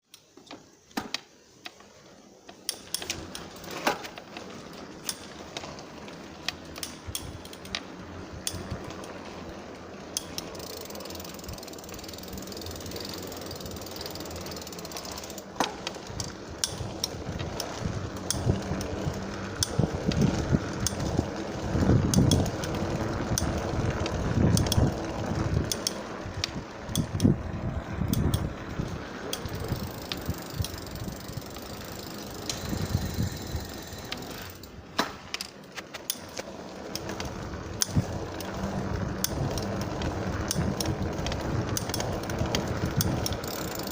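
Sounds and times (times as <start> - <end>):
bike crankset clicking: 0.1 - 43.9
mechanical rumbling noise: 2.8 - 35.6, 36.3 - 43.9.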